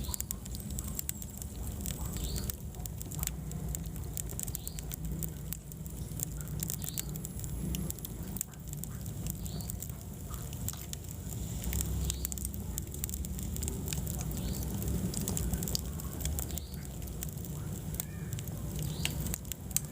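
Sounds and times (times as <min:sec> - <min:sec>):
low fire rumble: 0:00.0 - 0:19.9
wood fire crackling and popping: 0:00.0 - 0:19.9.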